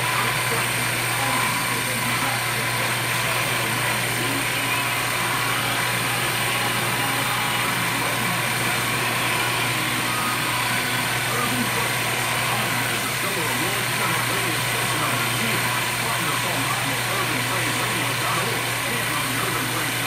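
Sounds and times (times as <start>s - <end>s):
cutter hissing on tire: 0.0s - 20.0s
tire shaving machine motor hum: 0.0s - 20.0s.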